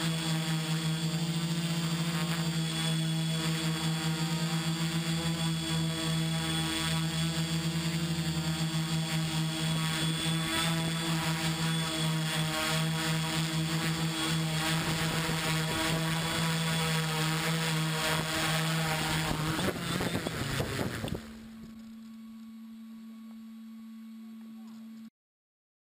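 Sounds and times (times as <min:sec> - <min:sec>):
drone propellers buzzing: 0:00.0 - 0:22.4
low hum: 0:00.0 - 0:25.1.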